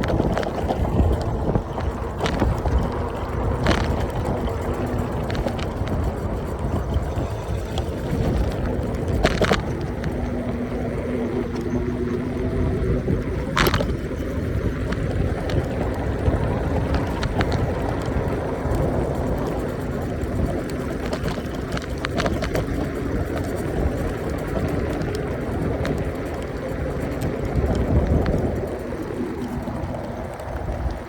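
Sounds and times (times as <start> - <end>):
road and wind rumble: 0.0 - 31.0.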